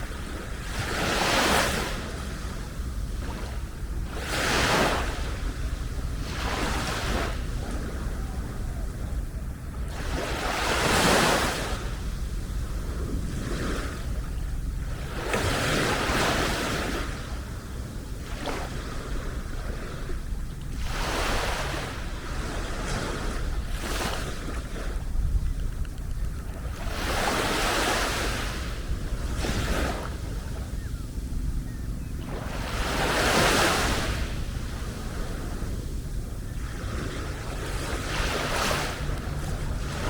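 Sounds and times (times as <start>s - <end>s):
sea waves washing onto beach: 0.0s - 40.0s
wind rumble on microphone: 0.0s - 40.0s.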